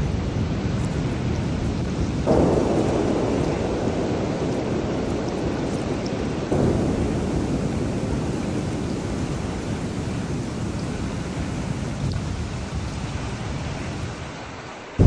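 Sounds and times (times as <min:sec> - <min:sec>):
thunder rumbling: 0:00.0 - 0:14.6
heavy rain falling: 0:00.0 - 0:15.0.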